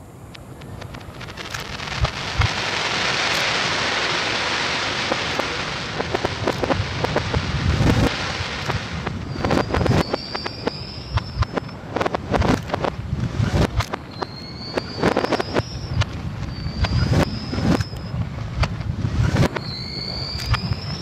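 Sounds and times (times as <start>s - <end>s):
reversed fireworks crackling hiss: 0.0s - 21.0s
sharp pops and crackles: 0.3s - 21.0s.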